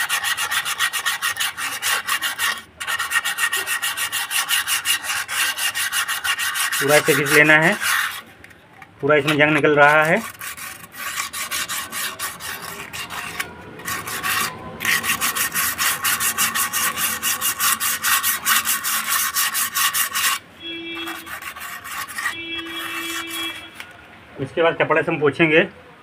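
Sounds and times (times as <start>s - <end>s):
sandpaper scrubbing a metal drum: 0.0s - 8.3s, 9.1s - 20.4s, 21.0s - 23.7s.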